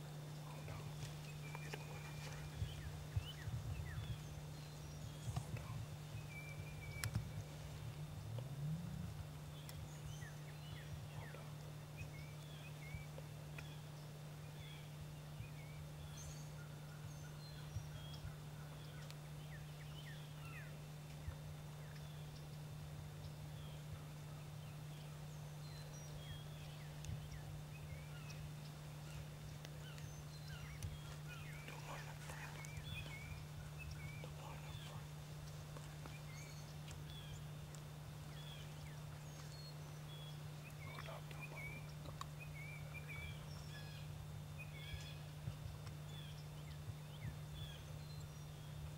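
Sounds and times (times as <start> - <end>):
songbirds chirping: 0.0 - 48.9
steady low hum: 0.0 - 48.9.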